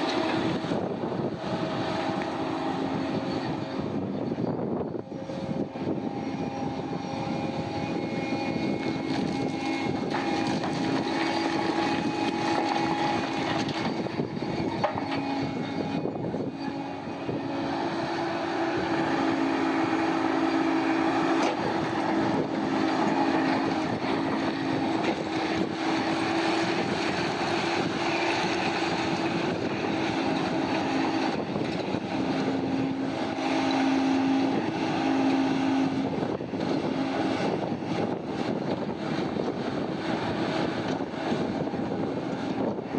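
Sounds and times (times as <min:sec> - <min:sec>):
diesel machinery engine drone: 0:00.0 - 0:42.9.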